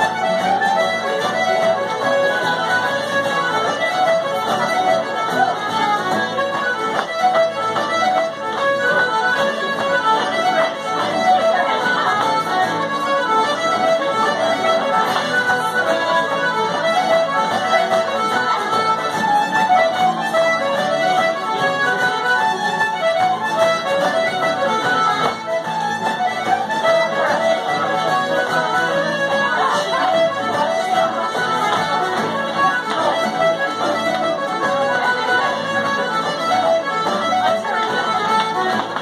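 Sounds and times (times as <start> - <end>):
accordion dance music: 0.0 - 39.0.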